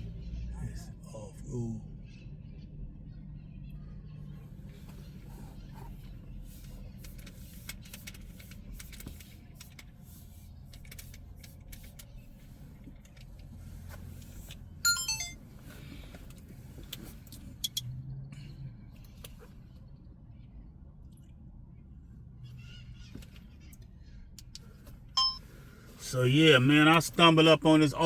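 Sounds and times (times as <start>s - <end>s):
vehicle engines idling: 0.0s - 28.0s.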